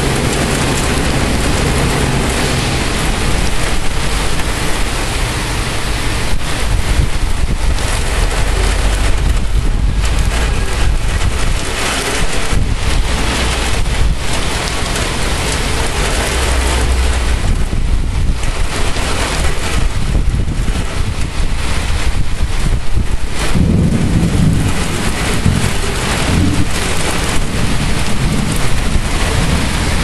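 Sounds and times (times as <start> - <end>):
heavy rain pouring: 0.0 - 30.0
low thunder rumbling: 0.0 - 30.0
wind buffeting microphone: 0.0 - 30.0.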